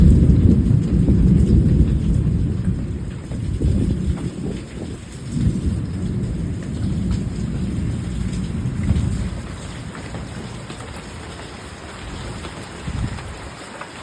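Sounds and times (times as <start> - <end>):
low rumble: 0.0 - 11.3
heavy rain downpour: 0.0 - 14.0.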